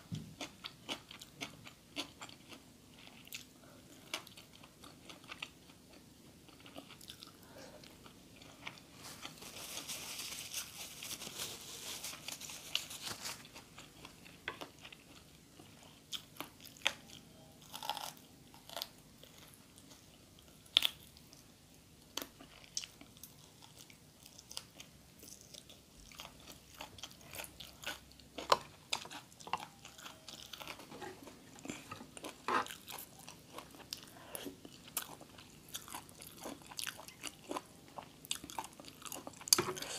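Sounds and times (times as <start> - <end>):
chewing and crunching food: 0.1 - 39.9.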